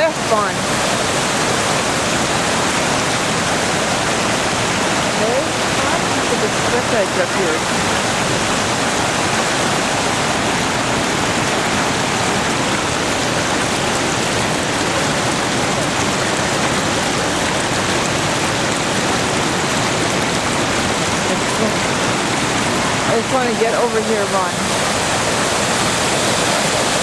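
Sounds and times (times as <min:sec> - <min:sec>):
creek water pouring over rocks: 0:00.0 - 0:27.0.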